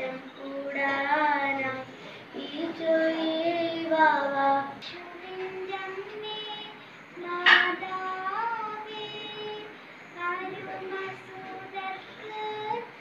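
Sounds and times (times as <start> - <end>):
girl singing: 0.0 - 13.0
second girl singing quietly: 0.0 - 13.0.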